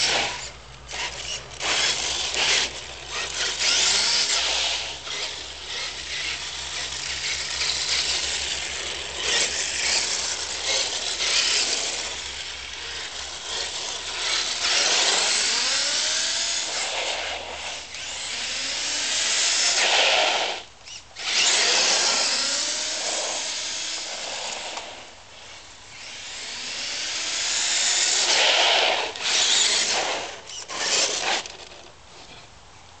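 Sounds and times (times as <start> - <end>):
tyre noise on asphalt: 0.0 - 18.3, 19.6 - 25.6, 27.4 - 33.0
electric motor whining: 0.0 - 24.9, 25.5 - 31.7.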